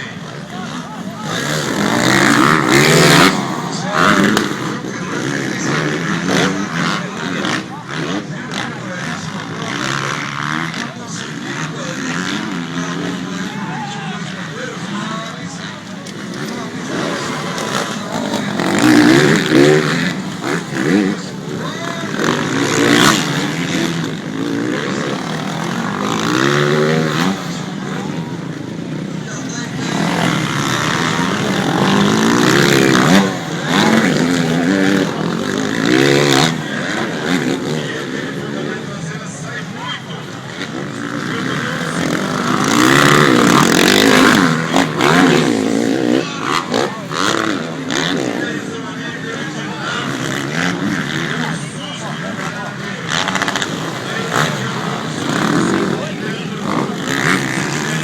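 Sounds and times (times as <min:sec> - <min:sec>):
motocross motorcycle engines revving: 0:00.0 - 0:58.0.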